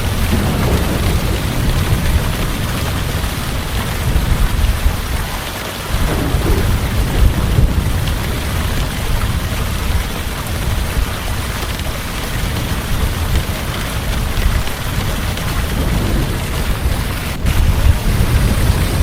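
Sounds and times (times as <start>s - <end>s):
heavy rain: 0.0s - 19.0s
rolling thunder: 0.0s - 19.0s.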